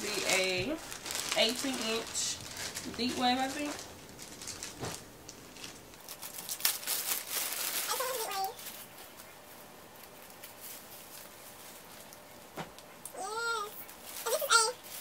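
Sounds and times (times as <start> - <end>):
plastic bag crinkling: 0.0 - 12.3, 13.6 - 15.0.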